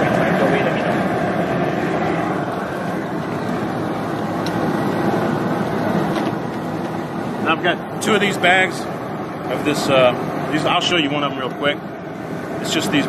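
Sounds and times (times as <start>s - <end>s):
propane burner roaring: 0.0s - 13.0s.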